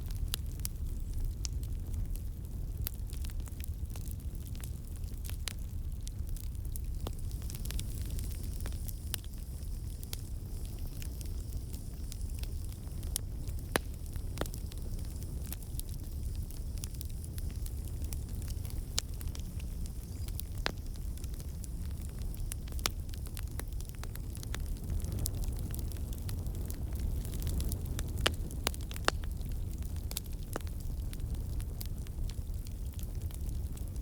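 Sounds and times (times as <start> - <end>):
burning wood crackling and popping: 0.0 - 34.0
campfire flames rumbling: 0.0 - 34.0.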